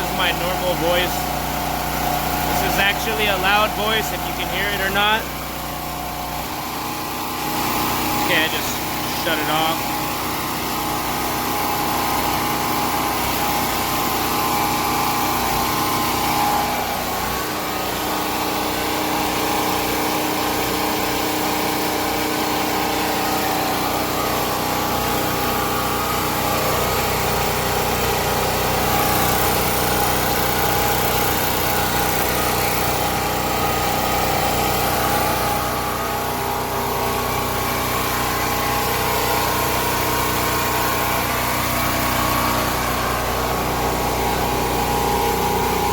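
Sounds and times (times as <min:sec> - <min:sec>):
generator engine running: 0:00.0 - 0:45.9.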